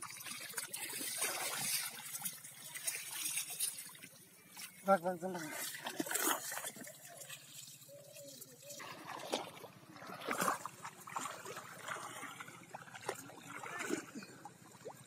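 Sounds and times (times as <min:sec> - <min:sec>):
muddy water splashing and sloshing: 0:00.0 - 0:15.0.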